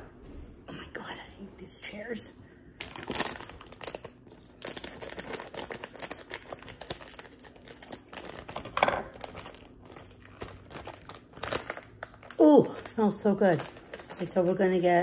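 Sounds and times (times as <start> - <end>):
plastic bag crinkling: 2.8 - 15.0.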